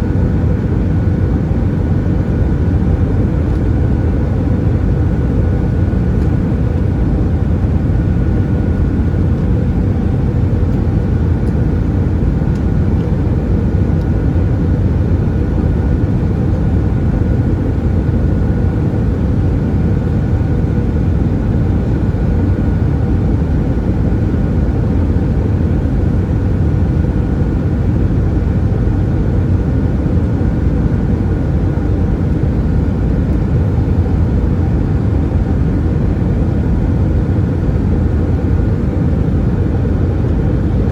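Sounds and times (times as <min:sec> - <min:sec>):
jet engines humming: 0:00.0 - 0:40.9.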